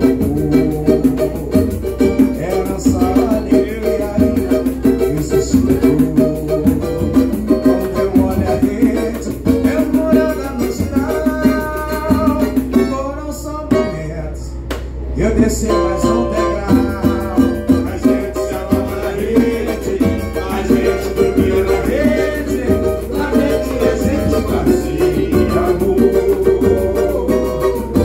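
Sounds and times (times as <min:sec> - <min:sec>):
pandeiro jingling: 0:00.0 - 0:13.0, 0:15.5 - 0:28.0
wooden hand drum: 0:00.0 - 0:14.1, 0:14.7 - 0:28.0
voices singing along: 0:00.0 - 0:14.4, 0:15.1 - 0:28.0
cavaquinho strumming: 0:00.0 - 0:28.0.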